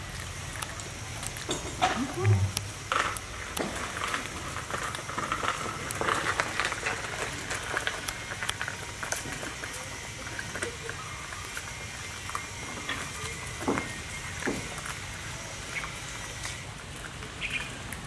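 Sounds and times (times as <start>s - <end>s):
puppies chewing wet clicks: 0.0s - 18.0s.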